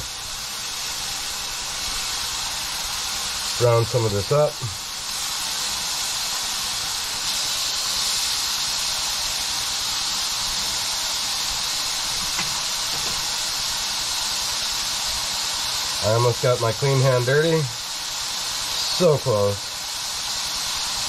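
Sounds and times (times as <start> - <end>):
chicken sizzling in a frying pan: 0.0 - 21.0.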